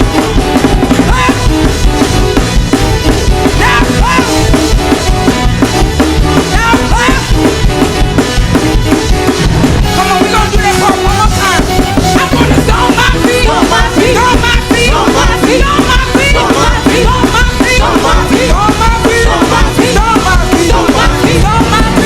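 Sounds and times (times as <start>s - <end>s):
gospel music: 0.0s - 22.0s
loud drum kit beat: 0.0s - 22.0s.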